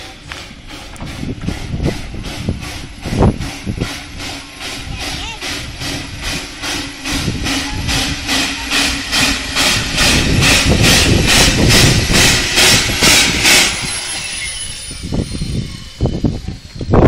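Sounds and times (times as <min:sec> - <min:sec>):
steam locomotive exhaust chuffing: 0:00.0 - 0:17.0.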